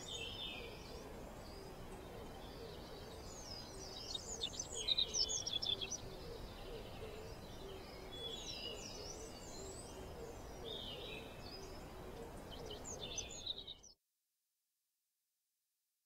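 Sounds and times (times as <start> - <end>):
soft outdoor hiss: 0.0 - 13.9.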